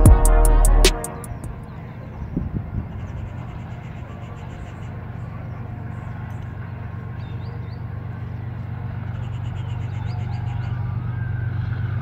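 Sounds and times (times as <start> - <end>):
birds chirping: 0.0 - 12.0
diesel locomotive engine drone: 0.0 - 12.0.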